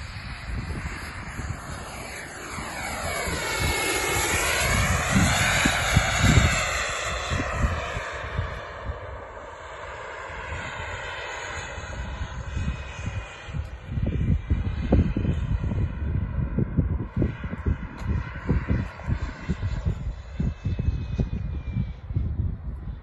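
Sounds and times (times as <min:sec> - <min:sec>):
jet turbine whining: 0:00.0 - 0:23.0
wind rumbling on microphone: 0:00.0 - 0:23.0.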